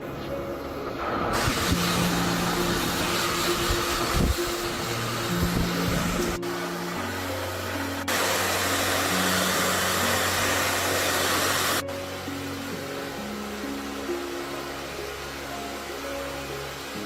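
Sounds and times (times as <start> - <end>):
background music: 0.0 - 17.0
loud rushing hiss: 0.6 - 17.0.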